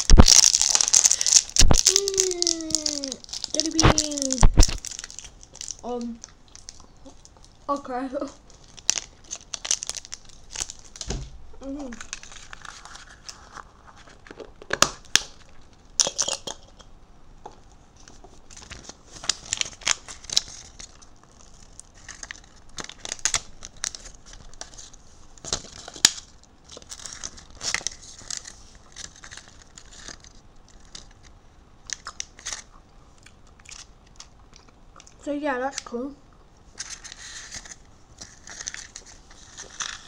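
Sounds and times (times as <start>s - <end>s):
plastic wrapping crinkling: 0.0s - 16.5s, 18.0s - 32.7s, 36.7s - 40.0s.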